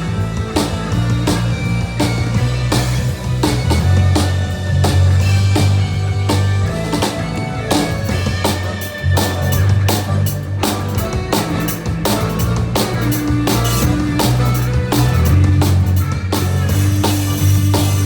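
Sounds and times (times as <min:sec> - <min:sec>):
band playing live: 0:00.0 - 0:18.0
low bass notes: 0:00.0 - 0:18.0.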